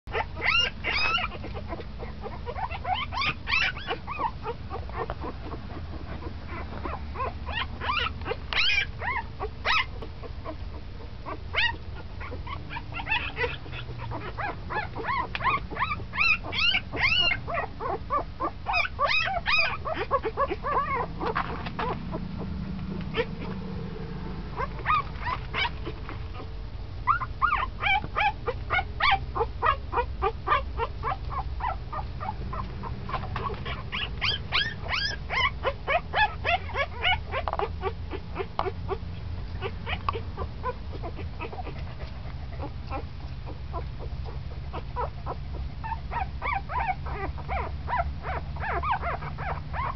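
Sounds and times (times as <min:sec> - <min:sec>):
puppies squeaking and whimpering: 0:00.1 - 0:49.9.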